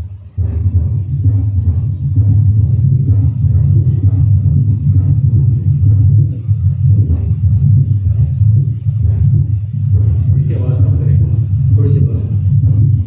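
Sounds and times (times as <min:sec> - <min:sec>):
low diastolic rumble: 0:00.0 - 0:13.0
recorded heartbeat sounds: 0:00.0 - 0:13.0.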